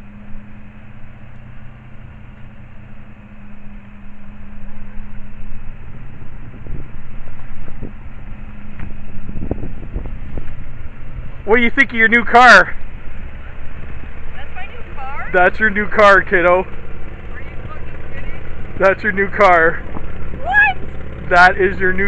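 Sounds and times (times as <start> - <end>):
car engine running: 0.0 - 22.0
steady low hum: 0.0 - 22.0.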